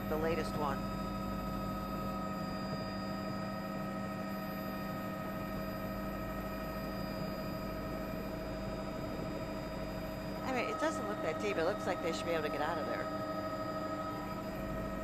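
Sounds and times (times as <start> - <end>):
helicopter drone: 0.0 - 15.0.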